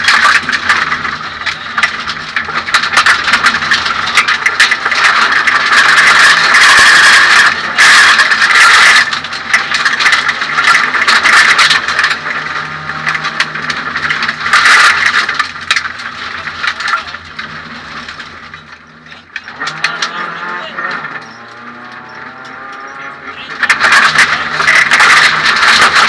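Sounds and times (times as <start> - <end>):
car engine running hard: 0.0 - 26.0
rattles and knocks: 0.0 - 26.0.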